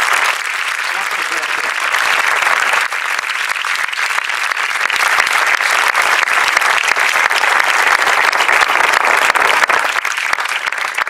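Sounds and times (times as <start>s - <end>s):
crowd applauding: 0.0s - 11.0s
sharp close hand claps: 0.0s - 11.0s.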